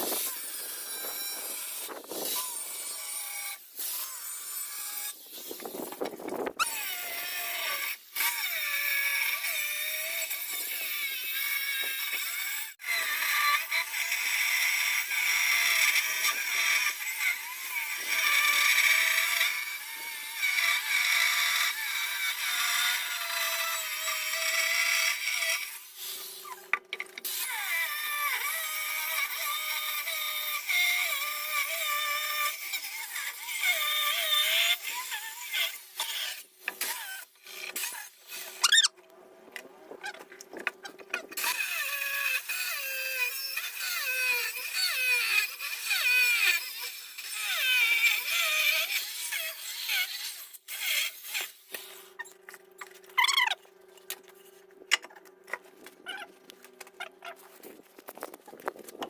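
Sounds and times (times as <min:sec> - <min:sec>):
power tool whining on stone: 0:00.0 - 0:39.0, 0:39.6 - 0:59.0.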